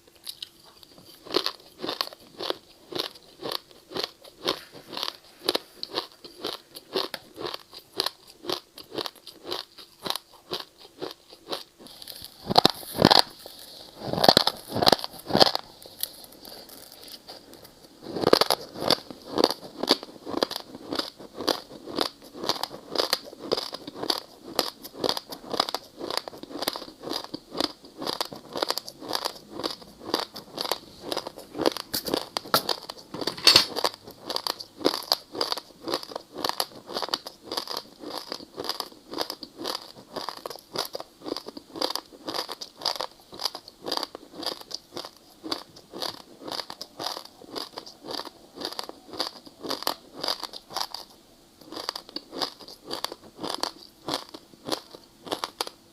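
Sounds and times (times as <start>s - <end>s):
ice being chewed: 0.0s - 55.8s.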